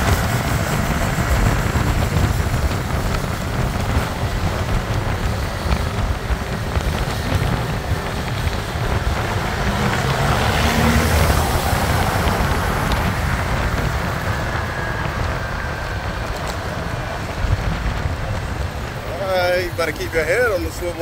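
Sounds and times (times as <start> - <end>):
motorcycle engine rumble: 0.0 - 21.0
traffic rumble: 0.0 - 21.0
wind rushing over microphone: 0.0 - 21.0.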